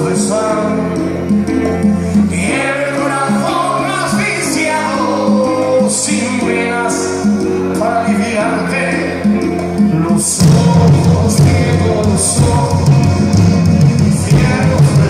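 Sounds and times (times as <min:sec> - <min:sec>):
song with singing over instruments: 0:00.0 - 0:15.0.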